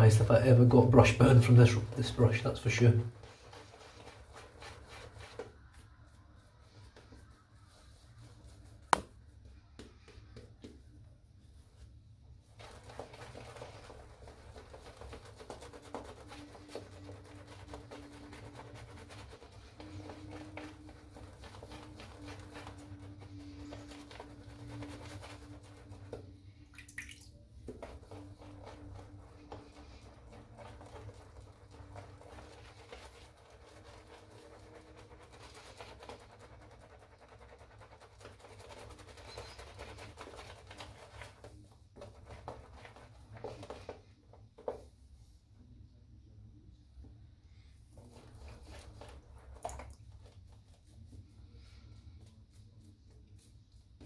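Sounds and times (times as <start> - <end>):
shaving brush on lather: 0.0 - 9.2, 12.4 - 26.7, 27.4 - 44.1, 47.9 - 54.0.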